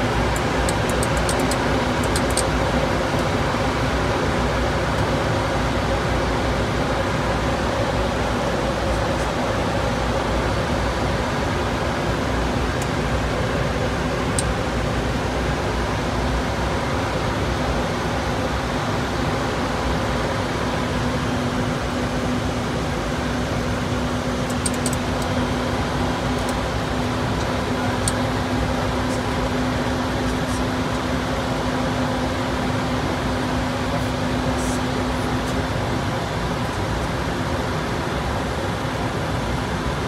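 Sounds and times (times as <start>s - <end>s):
airflow and ventilation rush: 0.0s - 40.0s.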